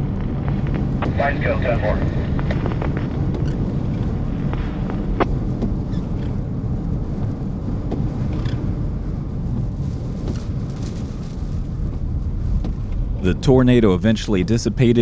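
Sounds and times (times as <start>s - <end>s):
road and wind noise: 0.0s - 15.0s
vehicle driving rumble: 0.0s - 15.0s.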